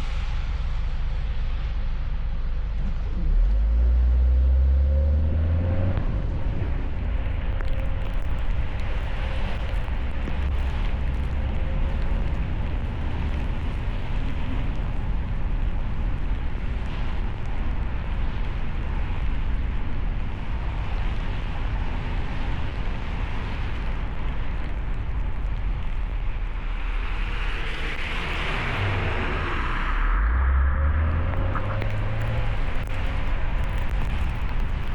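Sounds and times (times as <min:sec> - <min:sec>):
car engine and tyres rumbling: 0:00.0 - 0:34.9
road and wind noise: 0:00.0 - 0:34.9.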